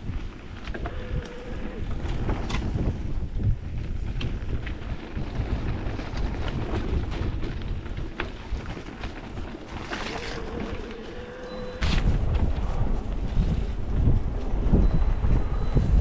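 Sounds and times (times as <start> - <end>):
bike rolling over rough ground: 0.0 - 16.0
wind buffeting the microphone: 0.0 - 16.0.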